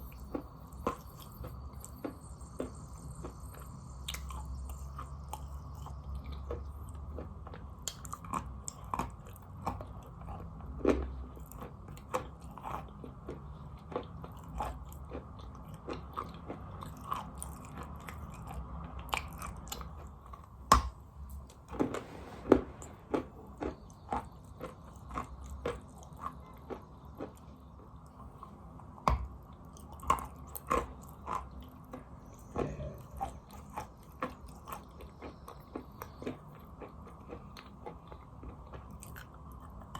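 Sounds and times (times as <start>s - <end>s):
chewing chalk crunches: 0.1s - 20.9s, 21.5s - 39.9s.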